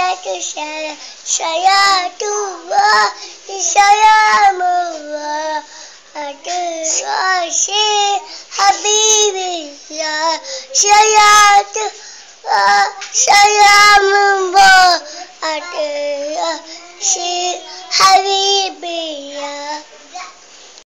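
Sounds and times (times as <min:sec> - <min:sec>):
child singing devotional chant: 0:00.0 - 0:20.4.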